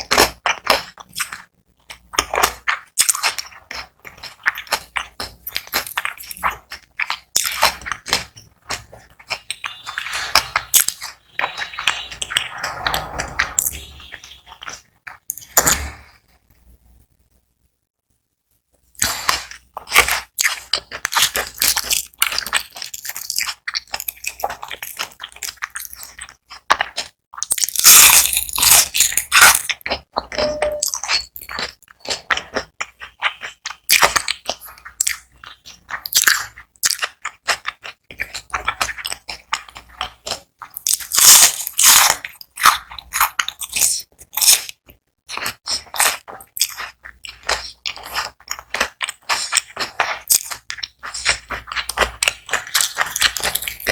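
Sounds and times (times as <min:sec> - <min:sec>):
crunchy chewing: 0:00.0 - 0:16.2, 0:19.0 - 0:53.9.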